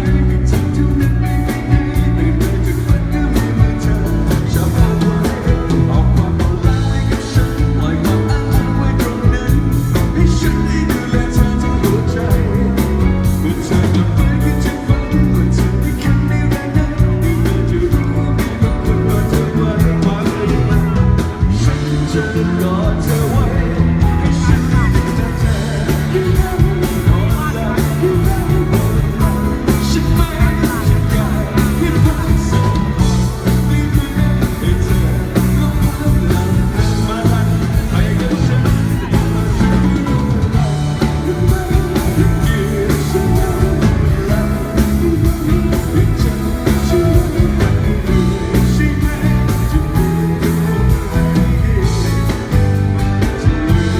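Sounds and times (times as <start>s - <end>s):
person singing: 0.0s - 53.9s
rock band playing: 0.0s - 53.9s.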